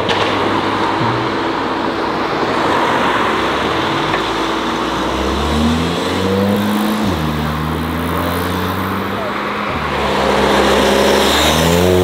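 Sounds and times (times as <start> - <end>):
car engine accelerating: 0.0 - 12.0
street traffic noise: 0.0 - 12.0.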